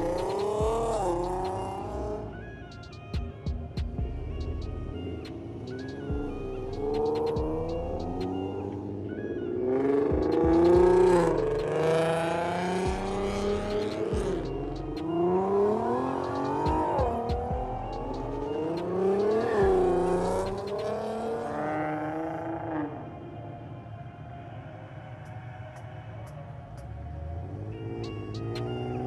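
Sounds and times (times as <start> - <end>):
car engine revving: 0.0 - 23.8, 26.8 - 29.0.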